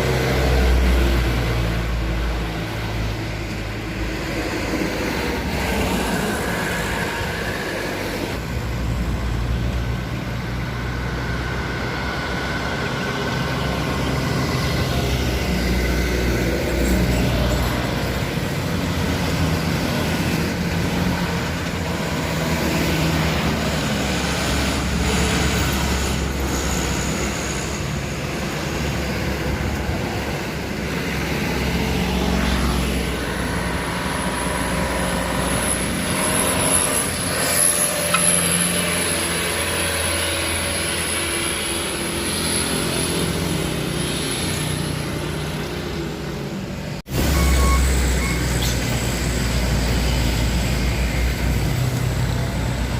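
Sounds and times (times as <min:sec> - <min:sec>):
truck engine labouring uphill: 0:00.0 - 0:52.9.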